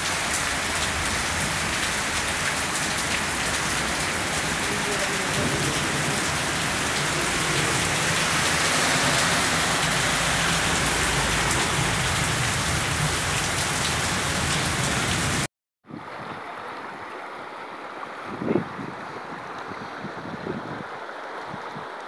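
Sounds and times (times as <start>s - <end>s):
floodwater rushing: 0.0s - 22.0s
heavy rain on pavement: 0.0s - 22.0s.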